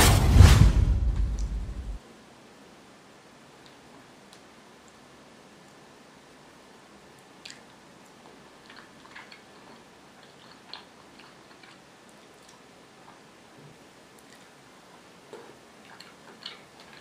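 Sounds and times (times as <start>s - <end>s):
faint steady hiss: 1.0s - 17.0s.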